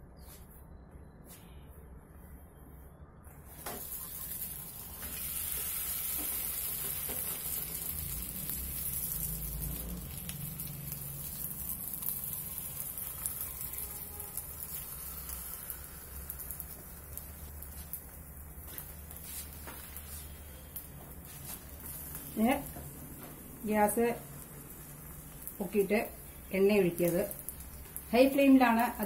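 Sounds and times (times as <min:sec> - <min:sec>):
batter sizzling on hot pan: 0:03.6 - 0:29.0.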